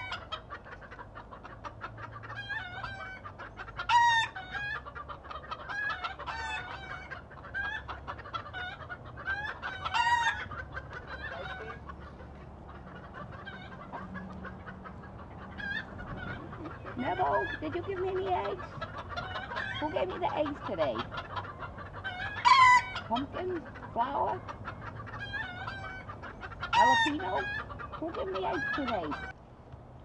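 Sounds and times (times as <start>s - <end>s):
chickens squawking: 0.0s - 29.4s
chickens clucking: 0.0s - 30.0s.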